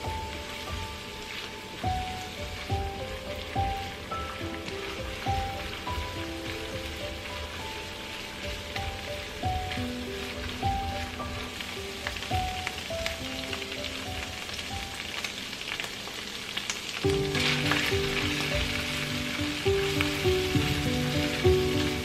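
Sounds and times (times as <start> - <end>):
background music: 0.0 - 15.1, 17.0 - 22.0
paste sizzling in hot oil: 0.0 - 22.0.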